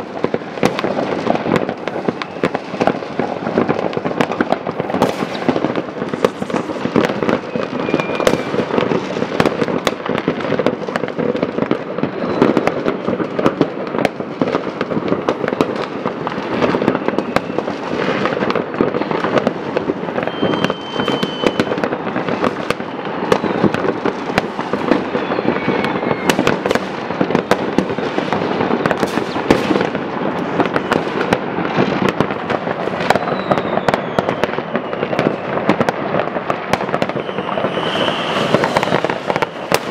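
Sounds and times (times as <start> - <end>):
fireworks crackling and banging: 0.0 - 39.9
firework whistles: 0.3 - 10.6, 11.8 - 13.6, 15.5 - 39.9.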